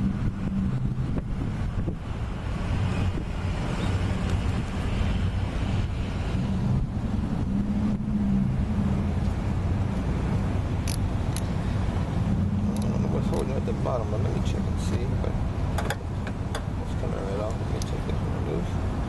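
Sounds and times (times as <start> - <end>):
vehicle engine rumbling: 0.0 - 19.0
wind buffeting microphone: 0.0 - 19.0.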